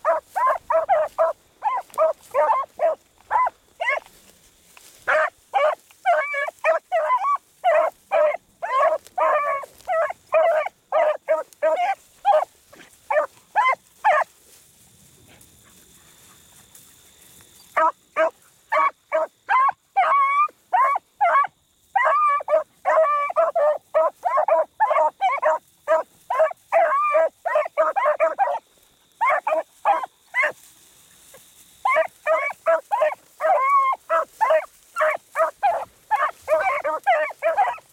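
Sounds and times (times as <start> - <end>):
hounds baying: 0.0 - 14.5, 15.2 - 37.9.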